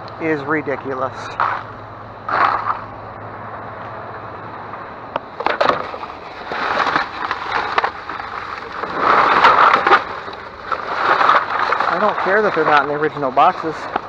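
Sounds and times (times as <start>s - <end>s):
scraping and rattling: 0.6s - 3.0s, 4.7s - 14.0s.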